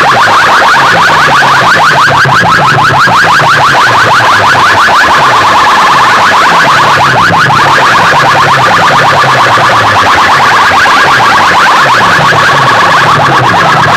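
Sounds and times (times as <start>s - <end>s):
electronic siren-like chirps: 0.0s - 13.9s.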